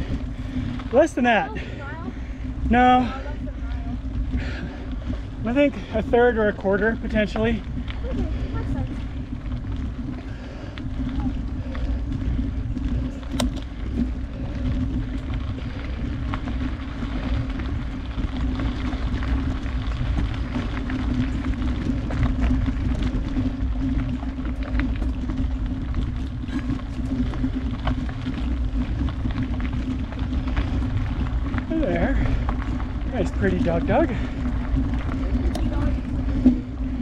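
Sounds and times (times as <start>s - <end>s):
small clicks and ticks: 0.0s - 37.0s
tyres rumbling over dirt: 0.0s - 37.0s.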